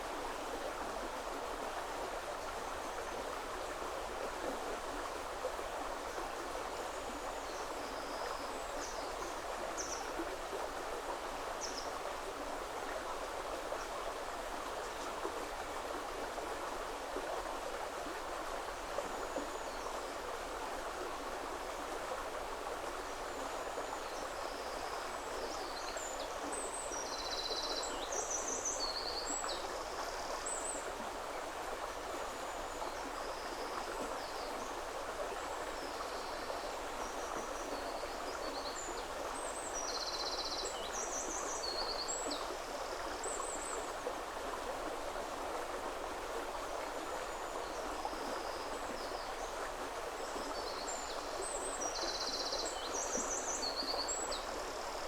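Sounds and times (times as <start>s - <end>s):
river flowing: 0.0s - 55.0s.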